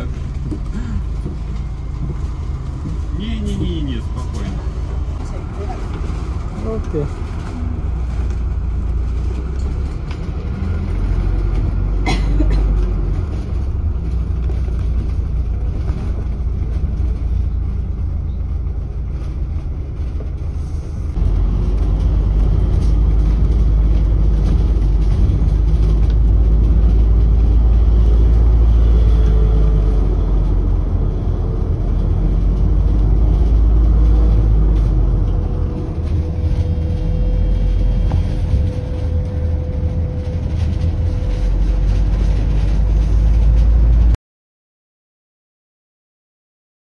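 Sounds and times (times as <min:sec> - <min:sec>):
bus engine and road rumble: 0:00.0 - 0:44.2.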